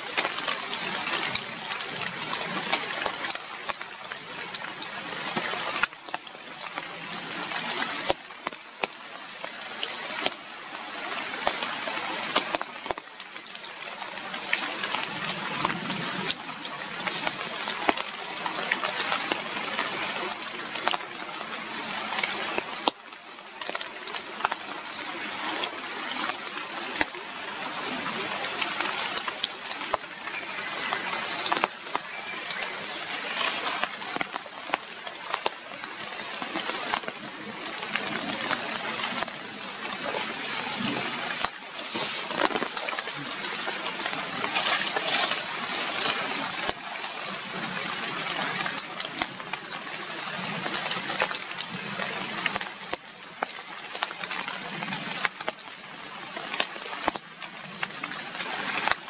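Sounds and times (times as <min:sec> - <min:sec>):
drips and taps: 0:00.0 - 0:10.4, 0:11.3 - 0:27.3, 0:28.3 - 0:46.9, 0:48.1 - 0:58.1, 0:58.7 - 0:59.0
rain falling on leaves: 0:00.0 - 0:59.0.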